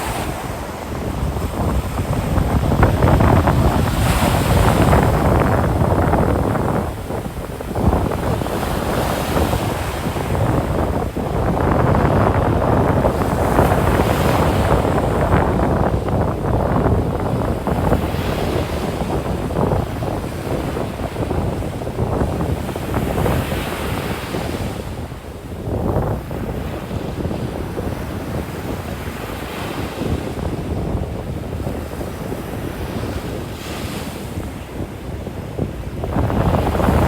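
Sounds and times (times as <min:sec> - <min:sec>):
ocean surf breaking: 0:00.0 - 0:26.9, 0:31.8 - 0:37.0
wind rumbling on microphone: 0:00.0 - 0:37.0.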